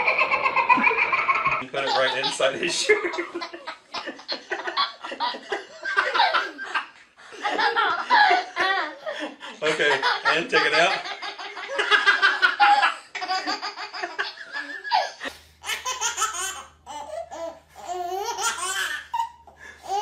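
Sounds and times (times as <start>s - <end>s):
baby laughing: 0.0s - 6.7s, 9.8s - 20.0s.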